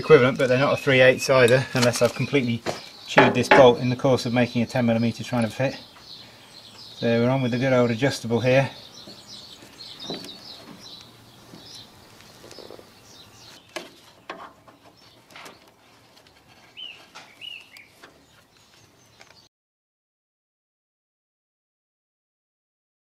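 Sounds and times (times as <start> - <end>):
birds chirping: 0.0 - 19.5.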